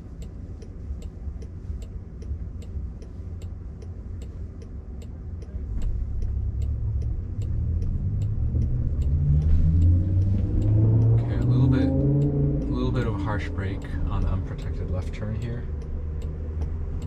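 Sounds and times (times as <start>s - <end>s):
road and tyre rumble: 0.0s - 17.0s
turn signal ticking: 0.0s - 17.0s.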